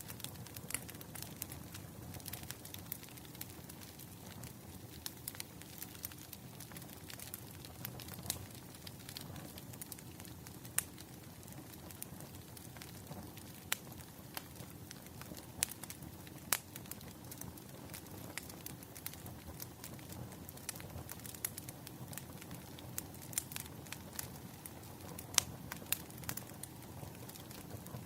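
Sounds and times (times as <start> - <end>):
low rumble of flames: 0.0 - 28.0
wood fire crackling: 0.0 - 28.0.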